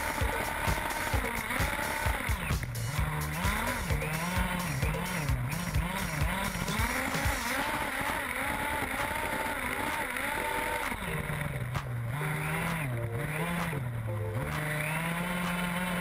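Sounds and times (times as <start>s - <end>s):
rc buggy motor revving: 0.0s - 16.0s.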